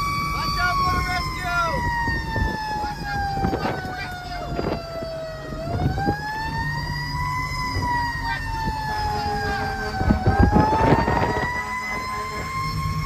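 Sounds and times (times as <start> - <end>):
diesel engine rumble: 0.0 - 13.0
mechanical siren wailing: 0.0 - 13.0.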